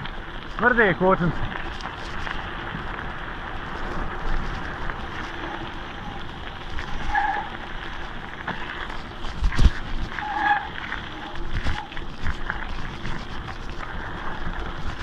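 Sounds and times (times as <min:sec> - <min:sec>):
bike tyres rattling on gravel: 0:00.0 - 0:15.0.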